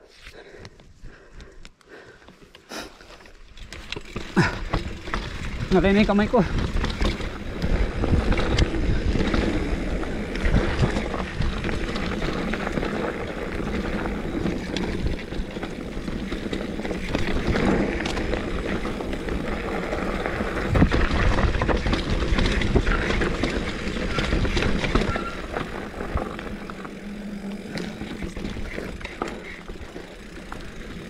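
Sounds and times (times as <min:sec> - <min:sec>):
bike rattling over bumps: 0:03.0 - 0:31.0
tyre and wind noise: 0:03.0 - 0:31.0.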